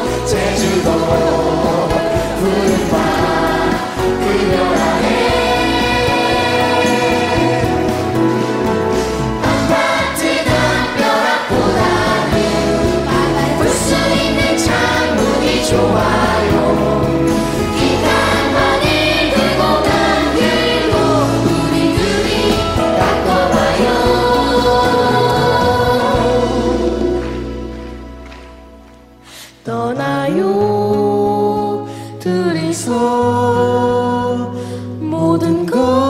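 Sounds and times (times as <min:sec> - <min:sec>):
song with sung vocals: 0:00.0 - 0:36.0.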